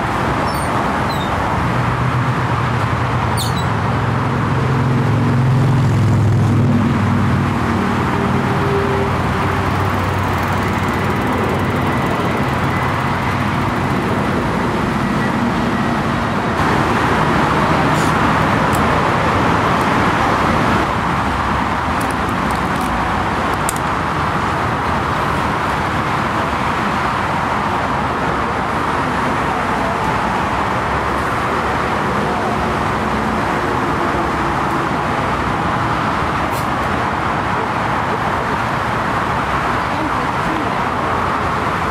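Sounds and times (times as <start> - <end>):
jet engines rushing: 0.0 - 41.9.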